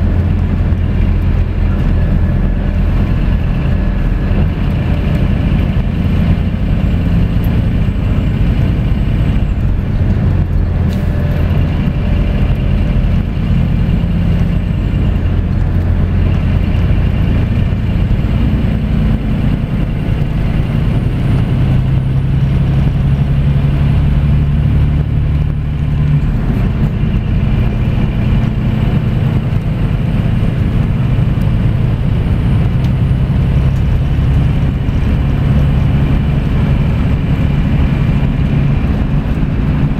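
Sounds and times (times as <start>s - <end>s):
coach engine drone: 0.0s - 39.9s
road noise: 0.0s - 39.9s.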